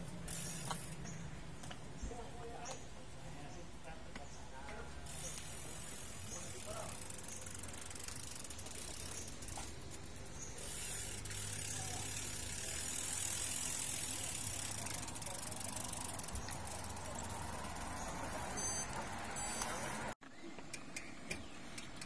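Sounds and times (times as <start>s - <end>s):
bike freewheel hubs ticking: 0.0s - 1.8s, 5.0s - 22.0s.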